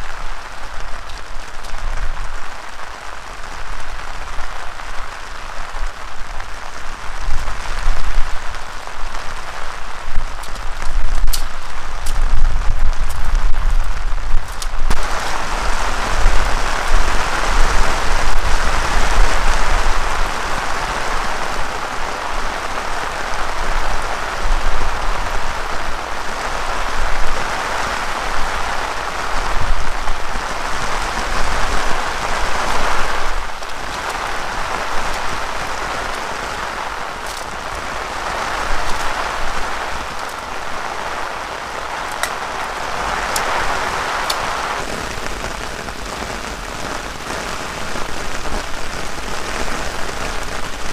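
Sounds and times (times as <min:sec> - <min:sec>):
heavy rain: 0:00.0 - 0:50.9
low wind rumble: 0:00.0 - 0:50.9.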